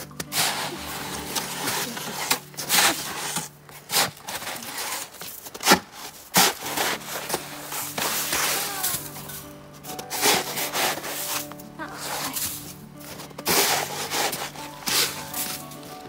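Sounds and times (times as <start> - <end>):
snow shovel scraping snow: 0.0 - 16.0.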